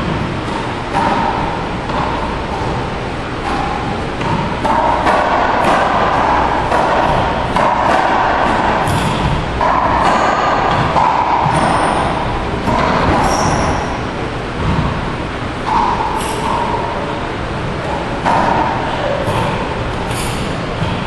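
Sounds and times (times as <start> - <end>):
ball hitting racquets and walls: 0.0 - 21.0
loud background noise: 0.0 - 21.0.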